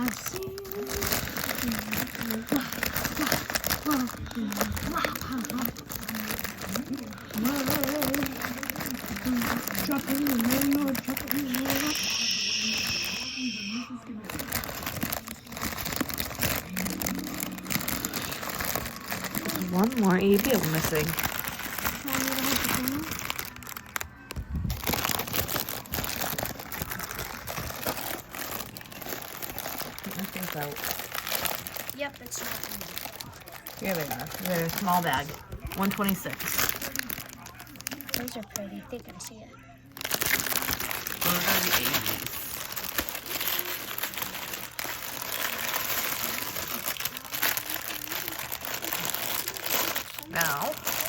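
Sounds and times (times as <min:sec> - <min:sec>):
plastic bags crinkling: 0:00.0 - 0:51.0.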